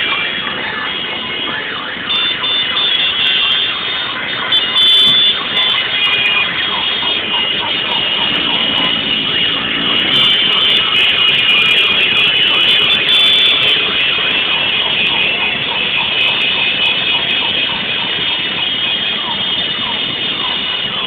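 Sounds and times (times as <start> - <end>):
motorcycle engines running: 0.0 - 21.0
motorcycle horns honking: 0.0 - 21.0.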